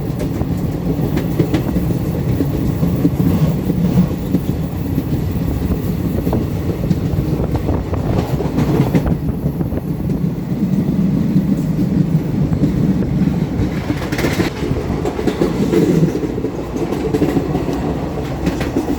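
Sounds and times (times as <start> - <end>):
train rumbling on rails: 0.0 - 18.9
wheel clatter over rail joints: 0.0 - 18.9.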